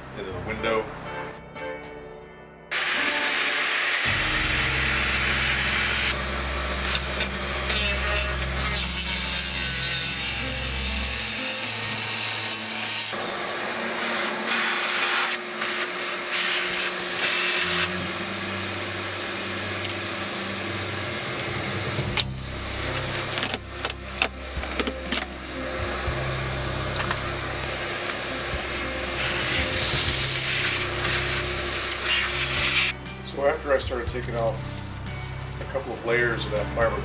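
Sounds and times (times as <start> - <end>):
rotary tool grinding fiberglass: 2.8 - 33.0.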